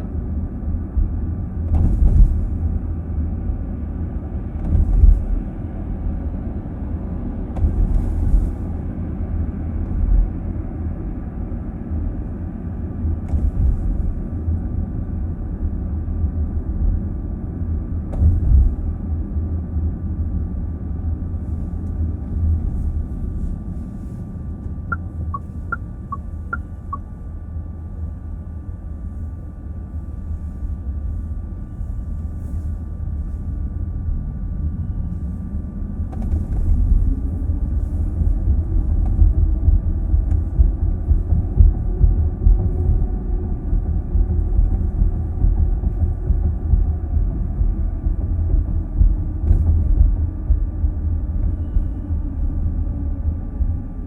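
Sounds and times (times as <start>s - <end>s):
road and tyre noise: 0.0s - 54.0s.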